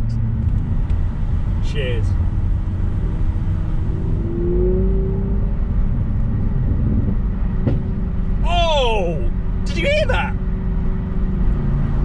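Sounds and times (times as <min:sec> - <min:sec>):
car engine drone from cabin: 0:00.0 - 0:12.0
road rumble: 0:00.0 - 0:12.0.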